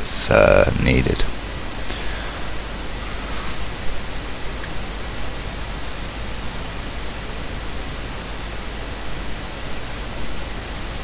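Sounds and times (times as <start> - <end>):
steady microphone hiss: 0.0 - 11.0.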